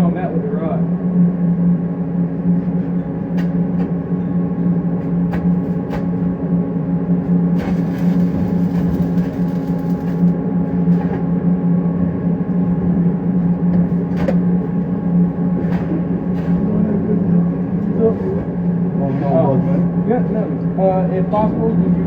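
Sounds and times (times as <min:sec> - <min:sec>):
machinery humming: 0:00.0 - 0:22.0.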